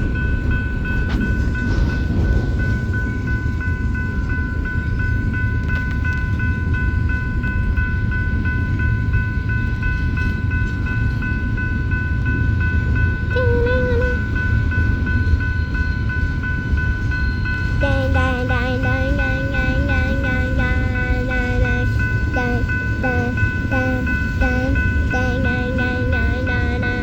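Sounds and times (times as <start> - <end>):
freight train rumbling past: 0.0 - 27.0
high pulsing ringing: 0.0 - 27.0.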